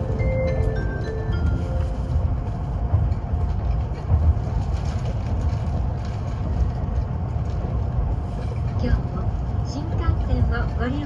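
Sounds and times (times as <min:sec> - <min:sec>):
train low rumble inside car: 0:00.0 - 0:11.0.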